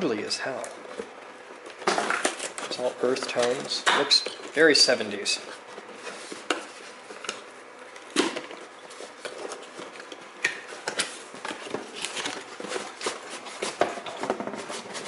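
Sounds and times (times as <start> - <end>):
packaging rustling: 0.6 - 15.0.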